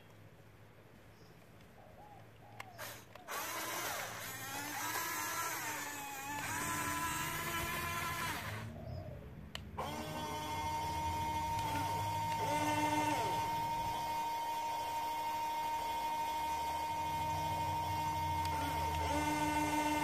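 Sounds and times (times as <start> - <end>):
small electric motors whining: 2.8 - 8.8, 9.8 - 20.0.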